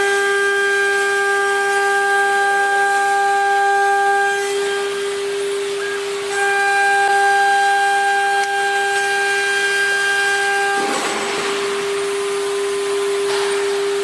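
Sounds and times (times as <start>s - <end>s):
cnc router spindle whine: 0.0s - 14.0s.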